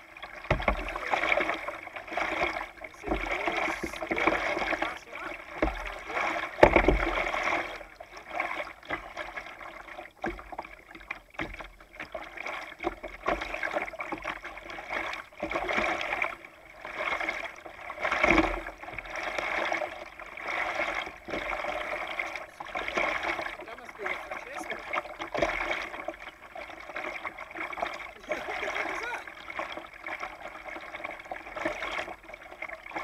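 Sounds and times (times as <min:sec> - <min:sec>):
kayak paddles splashing: 0:00.0 - 0:33.0
water lapping against hull: 0:00.0 - 0:33.0.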